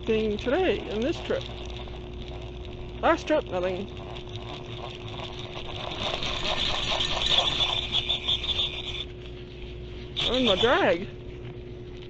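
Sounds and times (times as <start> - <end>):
fishing reel ticking whir: 0.0 - 11.2.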